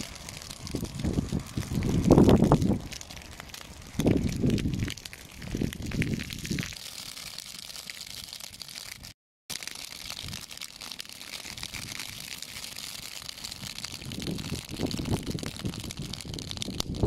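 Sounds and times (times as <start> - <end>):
burning grass crackling: 0.0 - 17.0.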